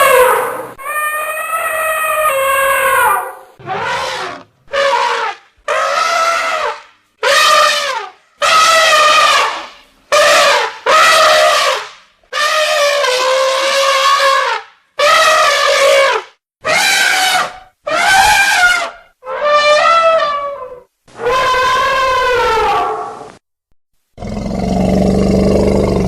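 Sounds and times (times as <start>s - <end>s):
elephants trumpeting: 0.0s - 23.2s.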